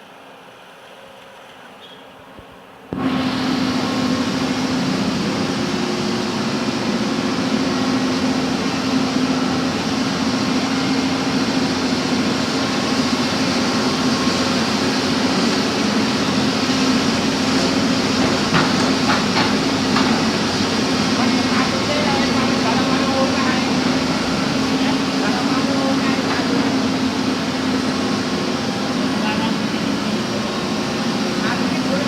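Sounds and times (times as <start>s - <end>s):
backhoe engine running: 3.0s - 32.0s.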